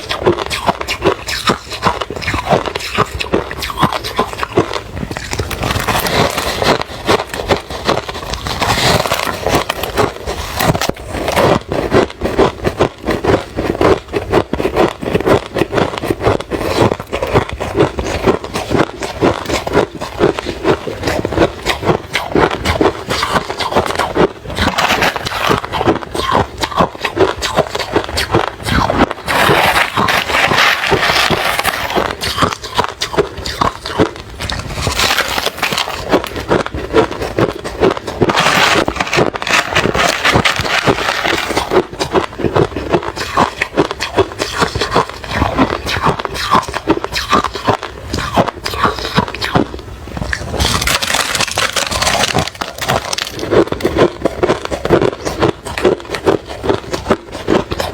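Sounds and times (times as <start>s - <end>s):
person chewing ice: 0.0s - 57.9s.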